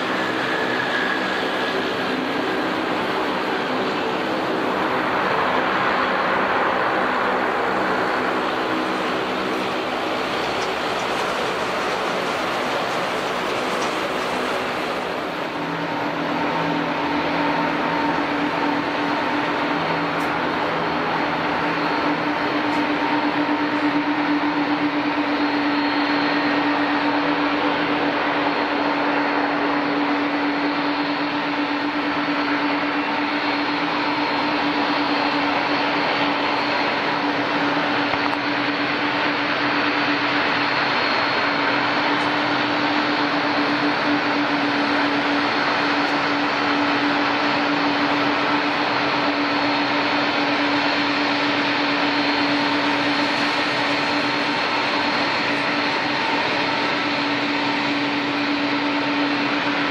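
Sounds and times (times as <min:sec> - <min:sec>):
turbine high whine: 0:00.0 - 0:59.9
turbine low hum: 0:00.0 - 0:59.9.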